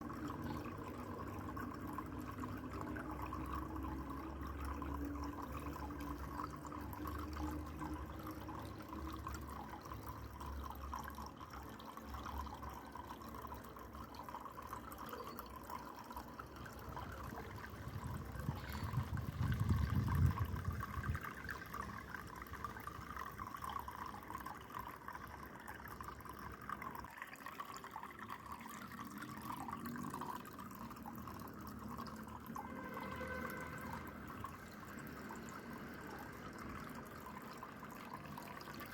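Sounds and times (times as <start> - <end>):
water trickling down waterfall: 0.0 - 38.9.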